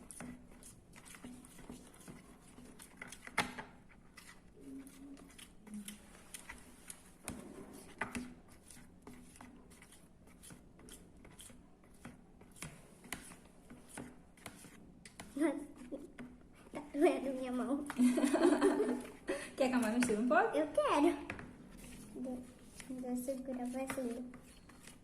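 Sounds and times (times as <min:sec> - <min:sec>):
utensil scraping against a bowl: 0:00.0 - 0:17.6, 0:21.6 - 0:25.0.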